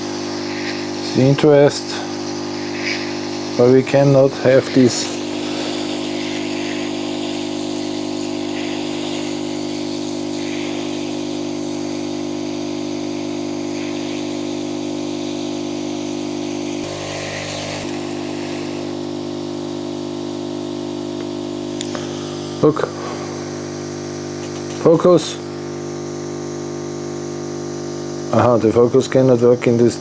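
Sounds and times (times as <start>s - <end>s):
hot-air rework station hum: 0.0s - 30.0s.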